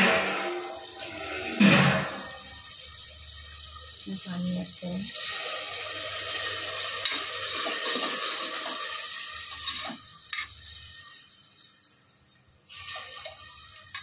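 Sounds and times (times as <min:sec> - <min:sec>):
water pouring into a pot: 0:00.0 - 0:14.0.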